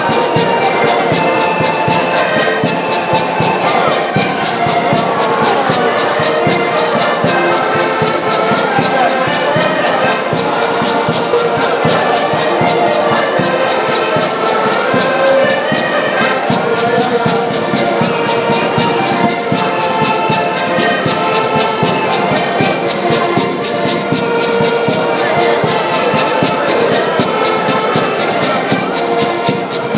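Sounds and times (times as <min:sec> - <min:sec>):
live band with brass melody: 0:00.0 - 0:29.9.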